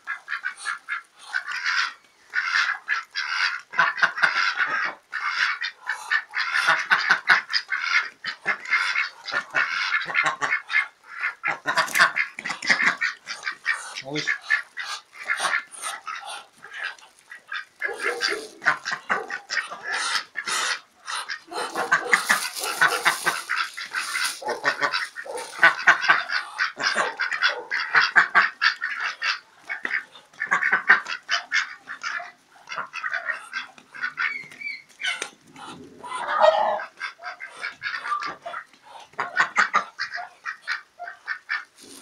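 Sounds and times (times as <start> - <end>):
ducks quacking: 0.0 - 42.0.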